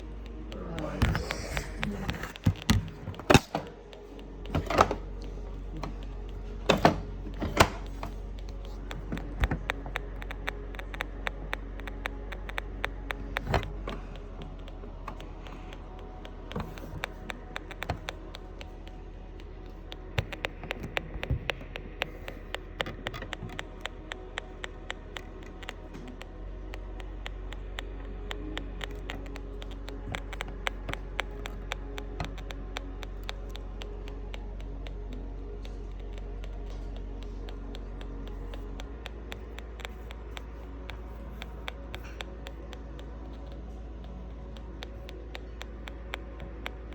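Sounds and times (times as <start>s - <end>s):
low hum: 0.0s - 46.9s
rapid sharp clicking: 0.0s - 46.9s.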